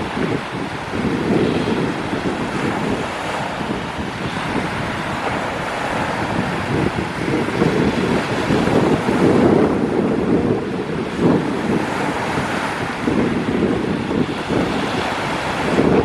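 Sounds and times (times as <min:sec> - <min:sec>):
waves washing on shore: 0:00.0 - 0:16.0
wind buffeting microphone: 0:00.0 - 0:16.0.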